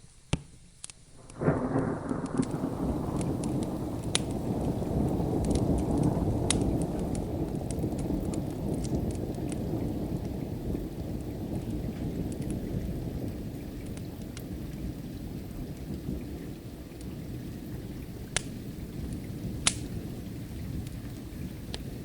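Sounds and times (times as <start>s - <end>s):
fireplace crackling: 0.0s - 22.0s
steady rain: 0.0s - 22.0s
fire pops: 0.3s - 22.0s
distant thunder rumbling: 1.2s - 22.0s.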